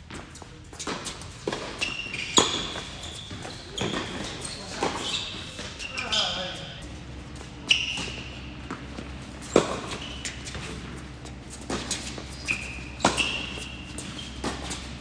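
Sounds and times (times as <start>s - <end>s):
shoe squeaks on court: 0.3s - 6.8s, 7.4s - 15.0s.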